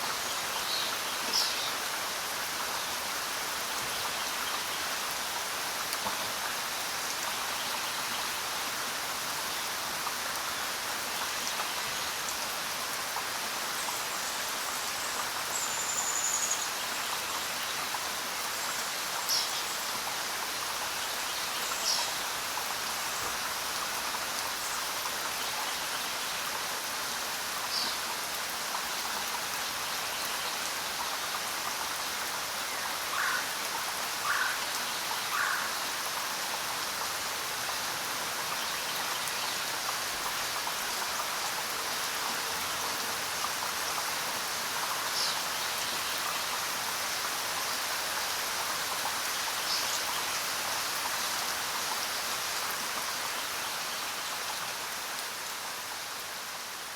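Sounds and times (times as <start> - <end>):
steady rain in forest: 0.0 - 56.9.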